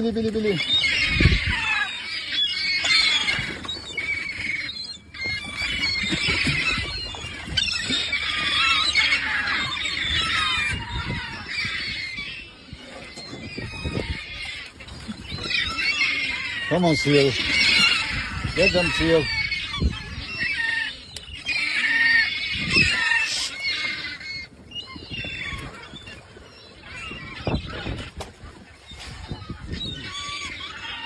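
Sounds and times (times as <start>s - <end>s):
seagulls calling and squawking: 0.0s - 31.0s.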